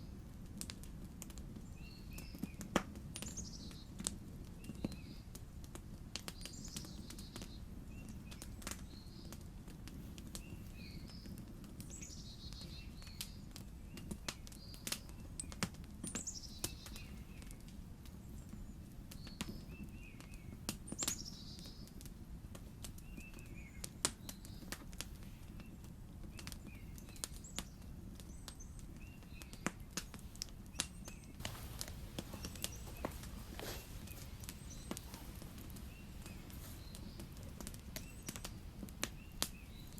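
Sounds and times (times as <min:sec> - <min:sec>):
low steady background noise: 0:00.0 - 0:39.9
songbirds chirping: 0:01.6 - 0:39.9.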